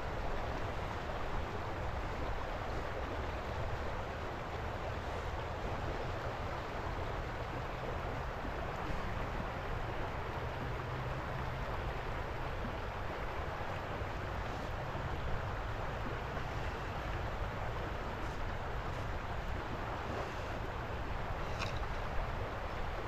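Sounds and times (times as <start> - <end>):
river water rushing over rocks: 0.0 - 23.0.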